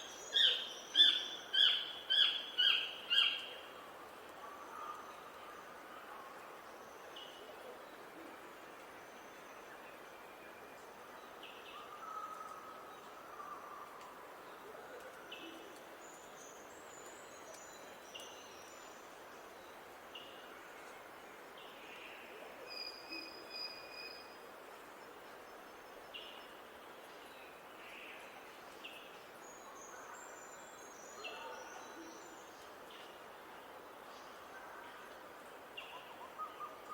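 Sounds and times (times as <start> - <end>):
steady outdoor hiss: 0.0 - 36.9.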